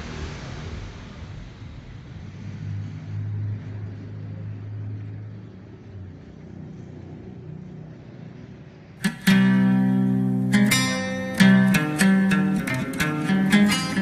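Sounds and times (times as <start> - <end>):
vehicle engine humming: 2.1 - 14.0.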